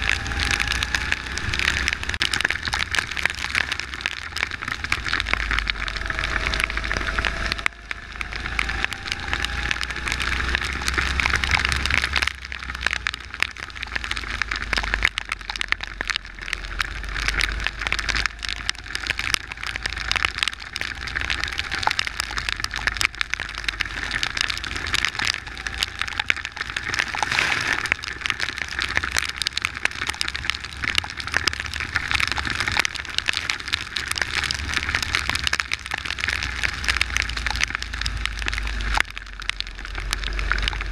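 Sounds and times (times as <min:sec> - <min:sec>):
rain pattering on camera: 0:00.0 - 0:40.9.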